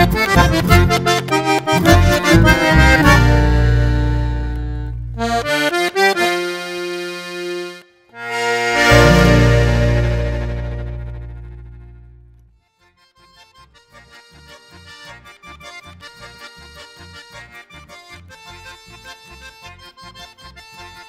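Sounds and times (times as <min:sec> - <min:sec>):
button accordion playing: 0:00.0 - 0:21.0.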